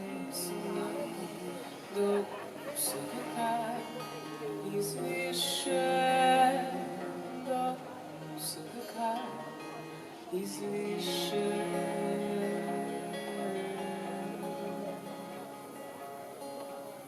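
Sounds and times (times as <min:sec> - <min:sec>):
person singing: 0:00.0 - 0:15.9
acoustic guitar: 0:00.0 - 0:17.0.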